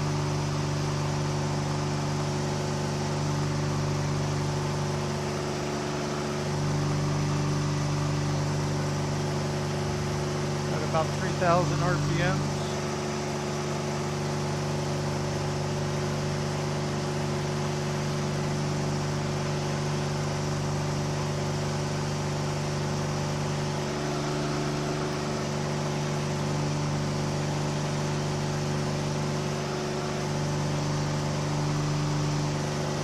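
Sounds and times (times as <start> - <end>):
light aircraft engine drone: 0.0 - 33.0.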